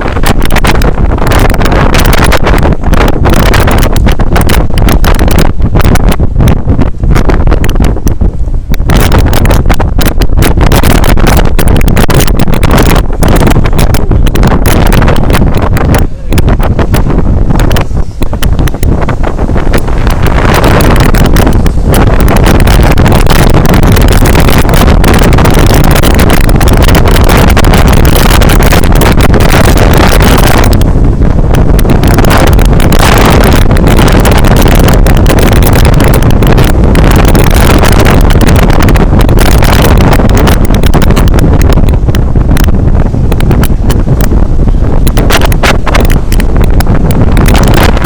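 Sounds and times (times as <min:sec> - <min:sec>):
bus running and road noise: 0:00.0 - 0:48.0
wind buffeting microphone: 0:00.0 - 0:48.0.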